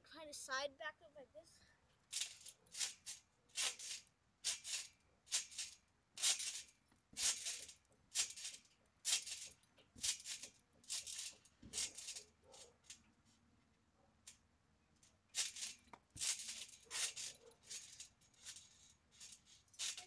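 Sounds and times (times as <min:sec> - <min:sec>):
trampoline springs rattling: 0:02.0 - 0:13.2, 0:15.0 - 0:20.0.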